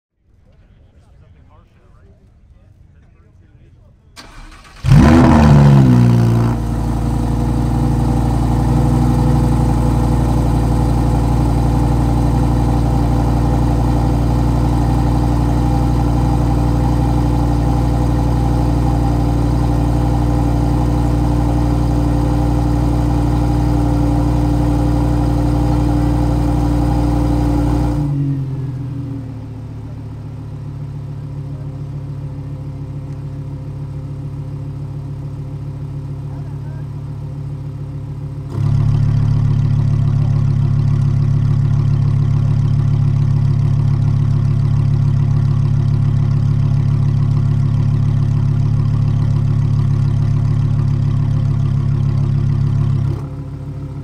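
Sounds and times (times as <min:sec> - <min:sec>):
engine idling: 0:04.2 - 0:54.0
sports car engine cold start: 0:04.2 - 0:54.0.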